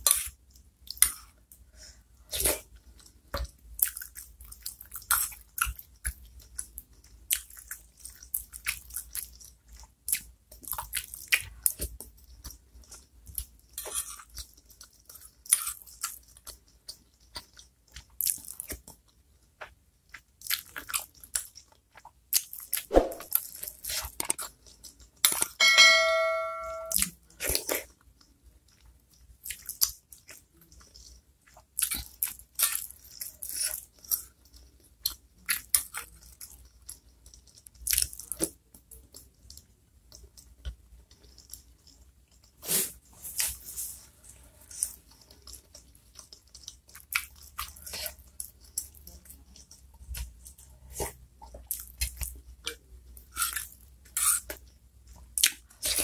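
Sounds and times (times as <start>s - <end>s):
close chewing with mouth clicks: 0.0s - 25.6s, 26.9s - 56.0s.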